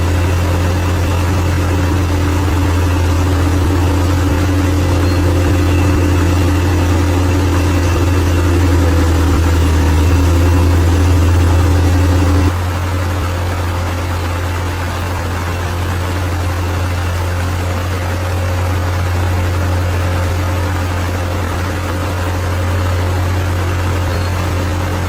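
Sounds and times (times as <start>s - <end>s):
bulldozer diesel engine droning: 0.0s - 25.0s.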